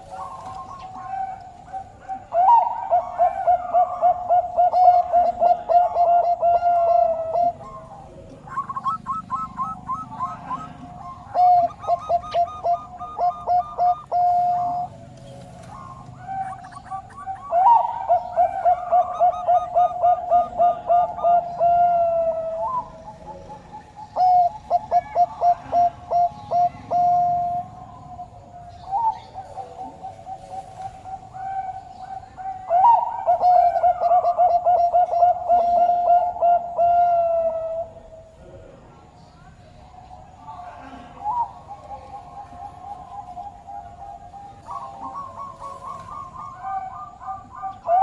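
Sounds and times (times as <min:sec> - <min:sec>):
small birds chirping: 0:00.0 - 0:36.4, 0:37.8 - 0:48.0
dove cooing: 0:00.0 - 0:48.0.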